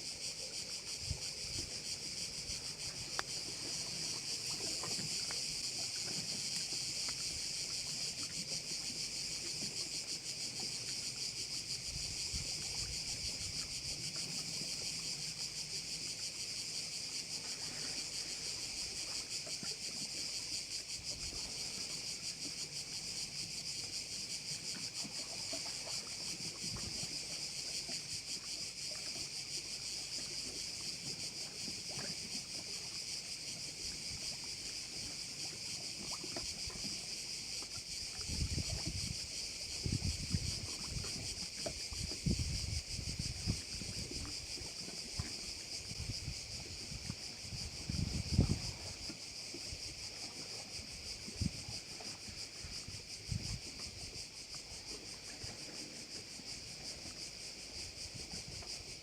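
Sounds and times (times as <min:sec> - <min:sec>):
crickets chirping chorus: 0:00.0 - 0:59.0.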